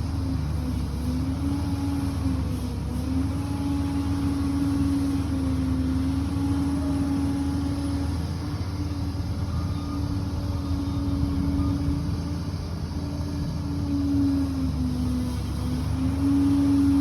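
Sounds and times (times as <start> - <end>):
bulldozer diesel engine rumbling: 0.0 - 17.0.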